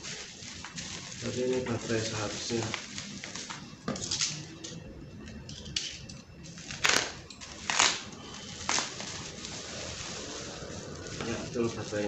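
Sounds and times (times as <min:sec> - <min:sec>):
plastic wrapping crinkling: 0:00.0 - 0:04.6, 0:06.4 - 0:12.0.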